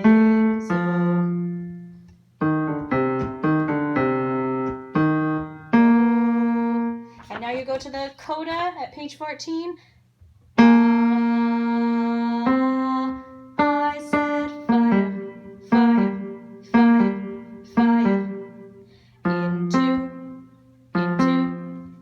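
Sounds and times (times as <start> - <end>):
piano chords: 0.0 - 7.4, 10.6 - 22.0.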